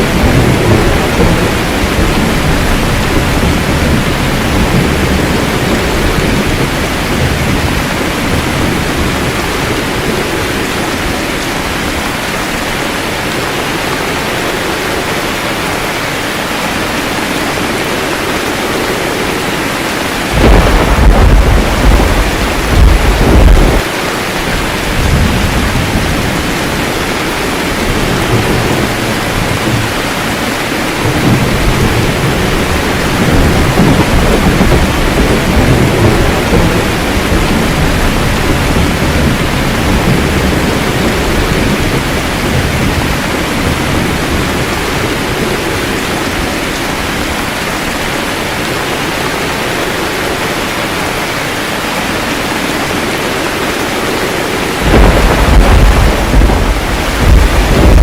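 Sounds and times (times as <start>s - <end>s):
thunder rumbling: 0.0s - 51.7s, 52.3s - 58.0s
steady rain: 0.0s - 58.0s.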